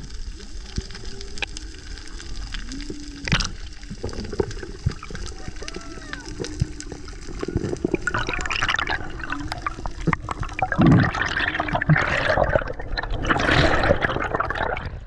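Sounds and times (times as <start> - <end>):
water splashing and bubbling: 0.0 - 15.0.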